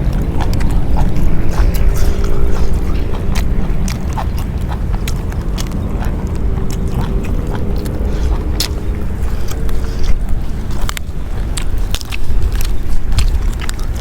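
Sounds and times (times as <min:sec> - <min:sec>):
person chewing crisp food: 0:00.0 - 0:14.0
steady low rumble: 0:00.0 - 0:14.0.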